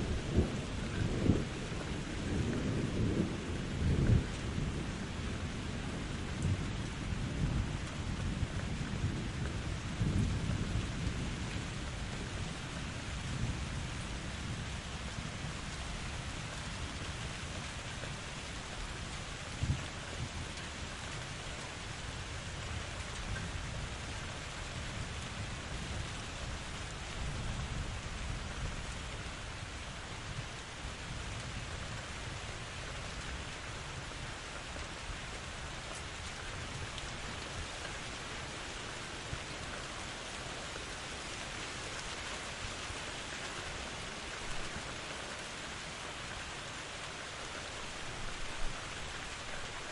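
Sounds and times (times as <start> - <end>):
rain falling in forest: 0.0 - 49.9.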